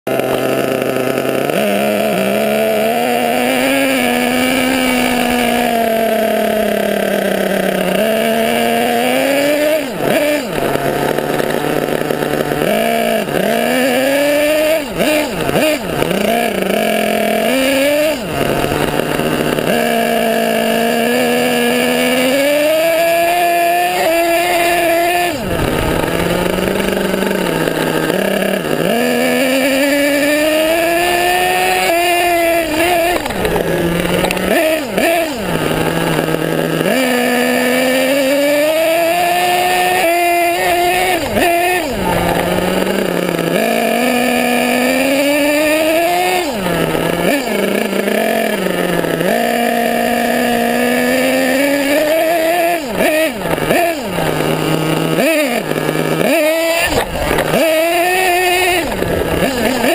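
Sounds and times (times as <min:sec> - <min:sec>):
toy truck engine revving: 0:00.1 - 0:59.9.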